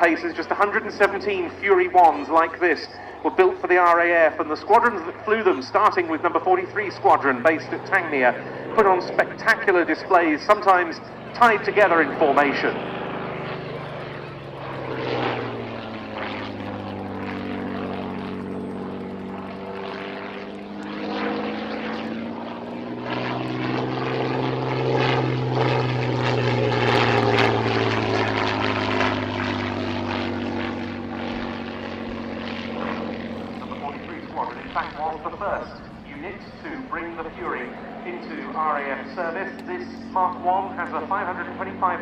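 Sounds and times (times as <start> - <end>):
propeller plane engine droning: 0.0 - 42.0.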